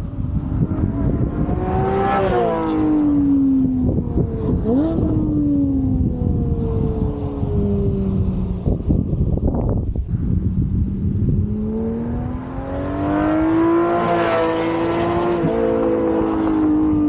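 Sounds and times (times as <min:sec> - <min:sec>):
sports car engine and exhaust: 0:00.0 - 0:17.0.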